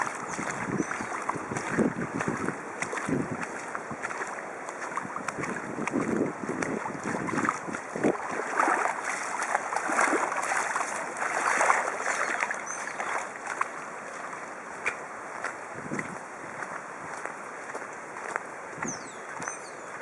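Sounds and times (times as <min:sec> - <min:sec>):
floodwater rushing and splashing: 0:00.0 - 0:20.0.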